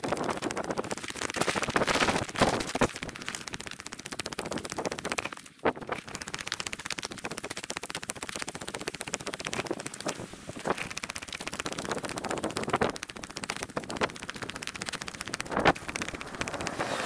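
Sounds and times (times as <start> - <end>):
rapid footsteps: 0.0 - 17.0.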